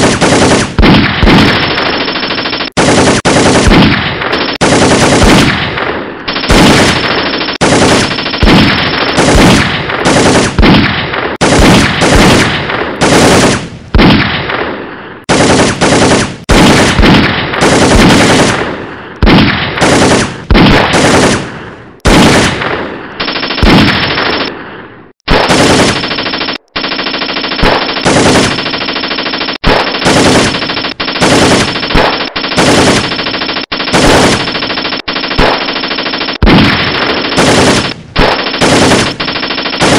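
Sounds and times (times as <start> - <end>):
machine-gun fire: 0.0 - 24.6, 25.3 - 39.9.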